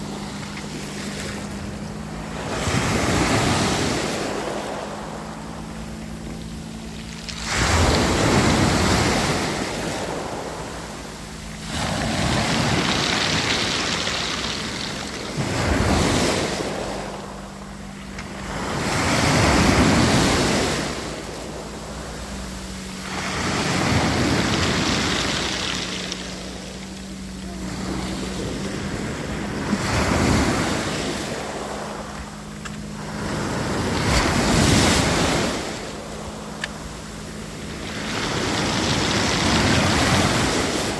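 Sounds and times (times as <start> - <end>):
waves breaking on beach: 0.0 - 40.9.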